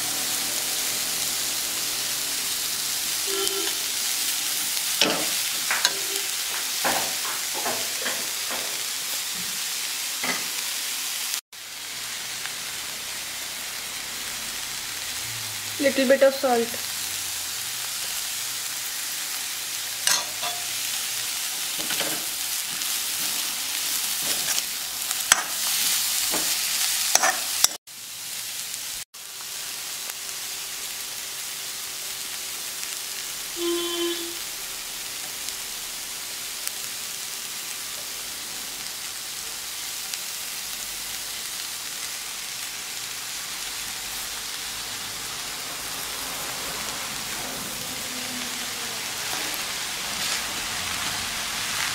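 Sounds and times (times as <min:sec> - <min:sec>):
vegetables sizzling in a wok: 0:00.0 - 0:51.9.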